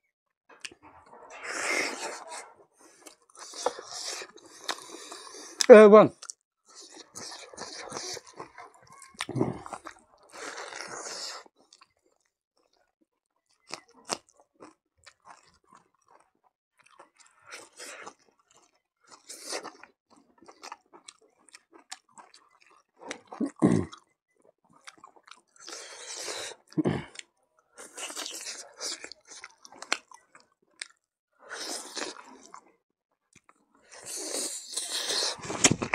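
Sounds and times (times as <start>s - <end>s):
wet chewing and crunching: 0.5s - 35.9s.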